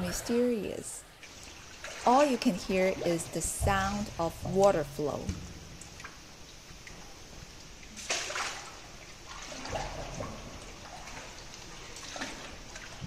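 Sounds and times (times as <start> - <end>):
water splashing around boat: 1.2 - 13.0.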